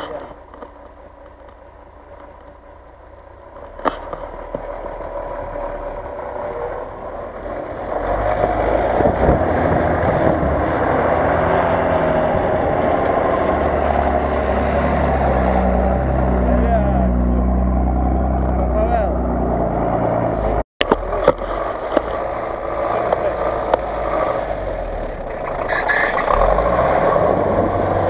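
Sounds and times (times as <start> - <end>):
truck engine driving through snow: 0.0 - 28.0.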